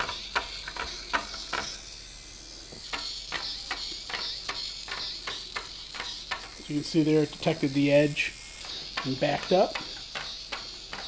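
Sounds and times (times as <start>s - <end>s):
small gear motor whir: 0.0s - 11.0s.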